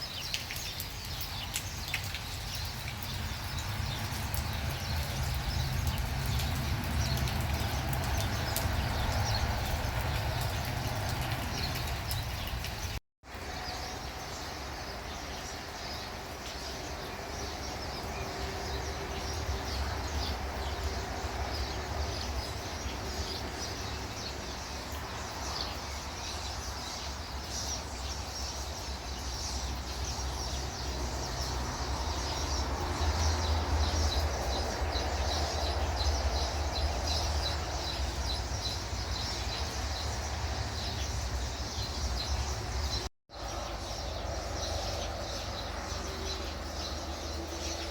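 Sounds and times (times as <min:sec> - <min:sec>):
small birds chirping: 0:00.0 - 0:13.0, 0:13.6 - 0:47.9.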